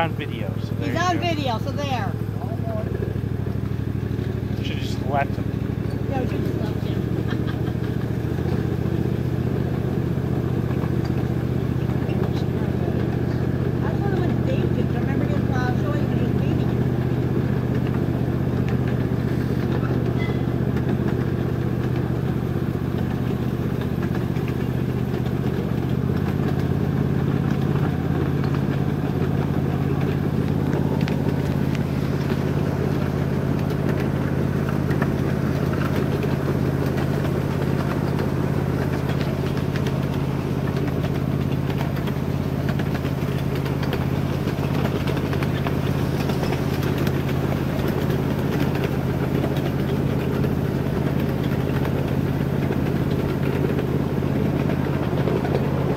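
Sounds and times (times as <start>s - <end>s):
small engine running steadily: 0.0s - 55.9s.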